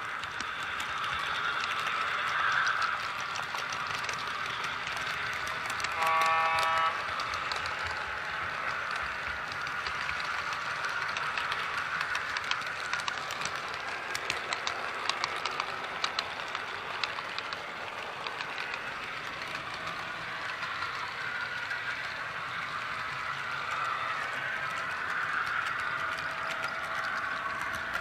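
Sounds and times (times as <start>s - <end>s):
wheels clicking on rail joints: 0.0s - 28.0s.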